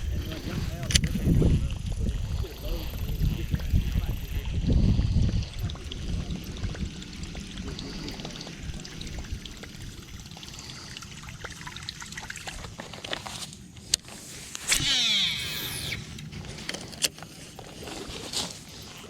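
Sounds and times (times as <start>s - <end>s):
water trickling and lapping: 0.0s - 19.0s.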